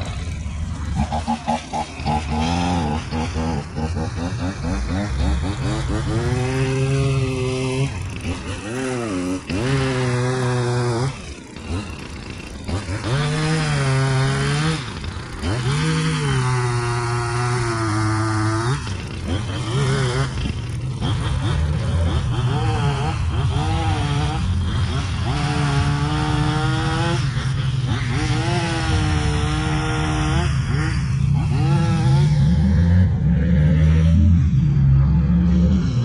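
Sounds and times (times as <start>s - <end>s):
chainsaw engine revving: 0.0s - 36.0s.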